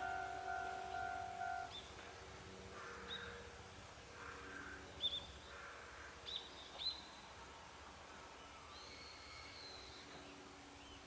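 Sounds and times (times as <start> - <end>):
low noisy bird calls: 0.0 - 11.0.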